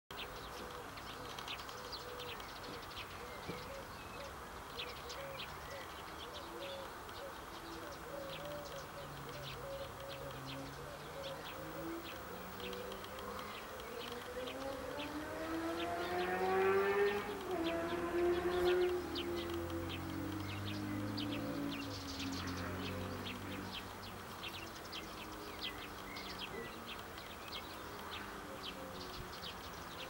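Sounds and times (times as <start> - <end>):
small birds chirping: 0.1 - 30.0.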